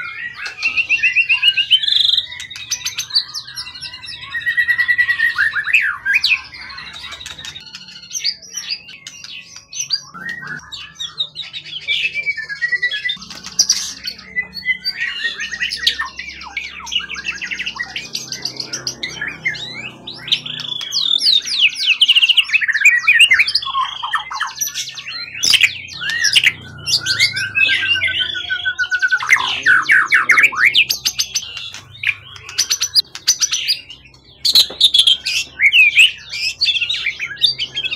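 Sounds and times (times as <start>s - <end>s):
songbird singing: 0.0s - 37.9s.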